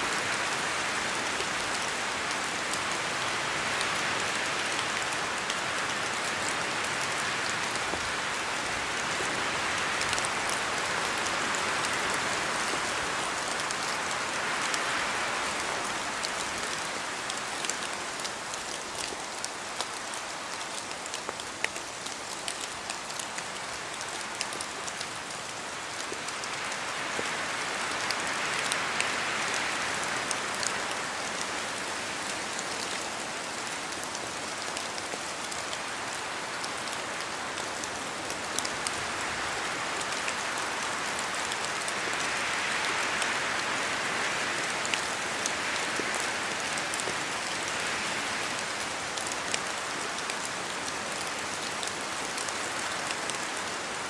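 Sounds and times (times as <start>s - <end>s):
rain in a forest: 0.0s - 54.0s
wind through leaves: 0.0s - 54.0s.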